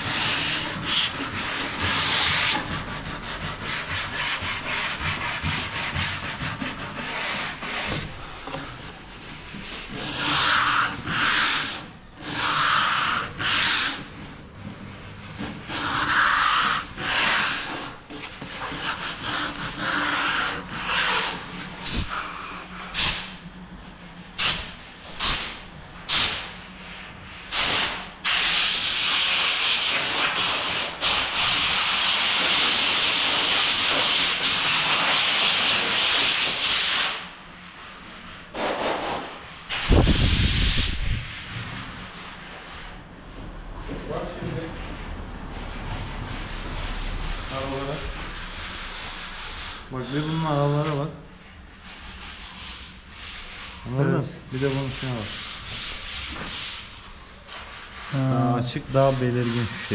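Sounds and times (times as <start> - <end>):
sandpaper rubbing on wood: 0.0 - 8.2, 9.1 - 14.2, 14.8 - 23.3, 24.4 - 43.0, 44.0 - 59.9.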